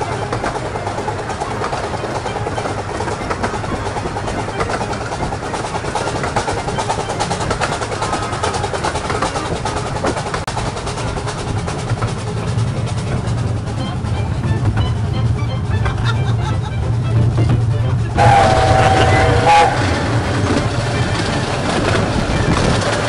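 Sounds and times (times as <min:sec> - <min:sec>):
steam train running noise: 0:00.0 - 0:23.0
wheels clattering on track: 0:00.0 - 0:23.0.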